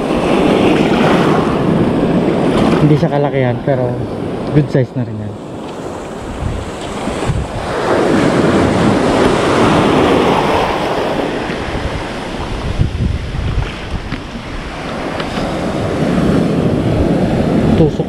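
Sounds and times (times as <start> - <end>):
surf washing over reef: 0.0 - 18.0
wind buffeting microphone: 0.0 - 18.0.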